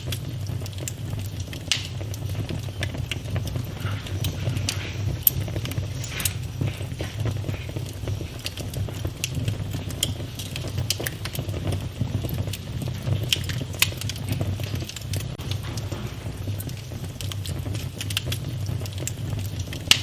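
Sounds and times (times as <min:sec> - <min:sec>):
low rumble of flames: 0:00.0 - 0:20.0
sharp snaps and pops: 0:00.0 - 0:20.0
wood fire crackling: 0:00.0 - 0:20.0.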